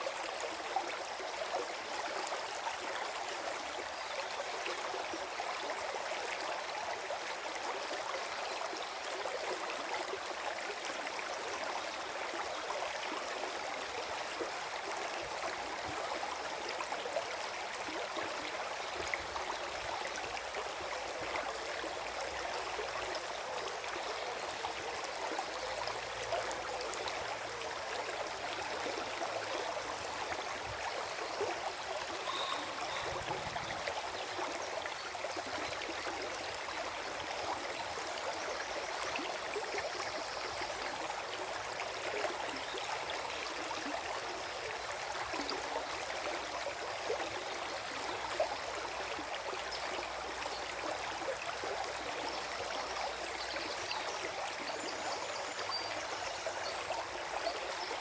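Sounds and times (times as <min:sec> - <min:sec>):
stream gurgling over stones: 0:00.0 - 0:58.0.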